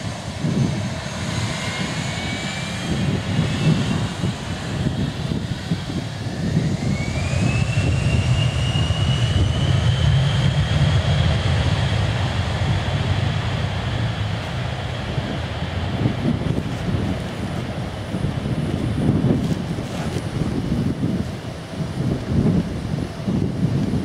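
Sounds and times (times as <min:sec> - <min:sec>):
jet engines spooling up: 0:00.0 - 0:20.8.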